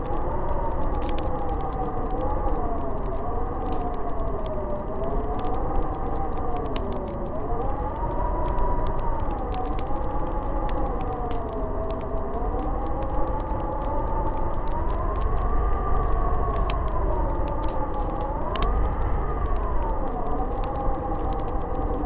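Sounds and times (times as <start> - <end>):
light ticks: 0.0 - 22.0
wind howling: 0.0 - 22.0.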